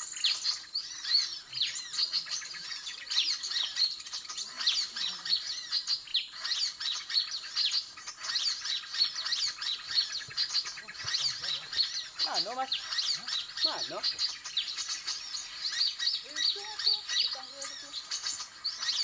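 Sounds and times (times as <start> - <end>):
many small birds chattering: 0.0 - 19.0.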